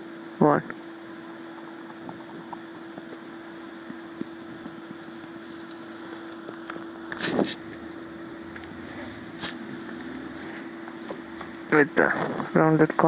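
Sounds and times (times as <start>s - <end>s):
microphone background hum and hiss: 0.0s - 13.0s.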